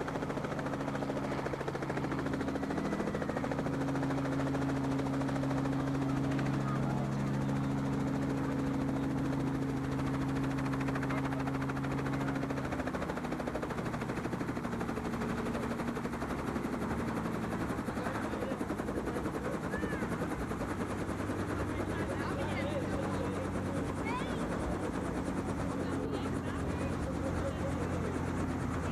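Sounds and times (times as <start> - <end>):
helicopter engine hum: 0.0 - 28.9
helicopter rotor beating: 0.0 - 28.9.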